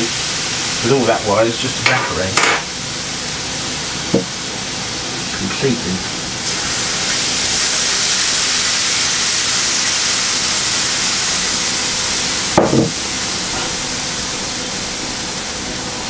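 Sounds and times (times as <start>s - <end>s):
wine sizzling in hot pan: 0.0s - 16.0s.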